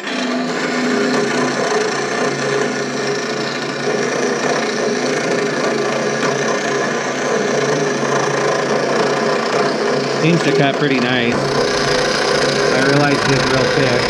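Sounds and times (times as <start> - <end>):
bandsaw rasping through wood: 0.0 - 14.0
electric motor hum: 0.0 - 14.0.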